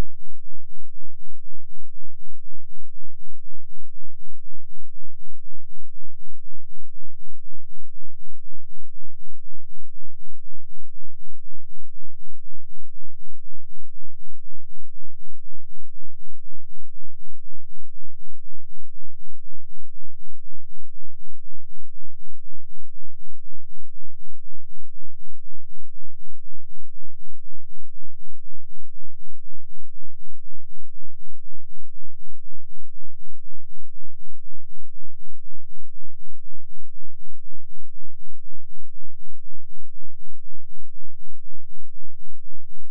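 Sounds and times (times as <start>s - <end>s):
low bass test tone throbbing: 0.0s - 42.9s.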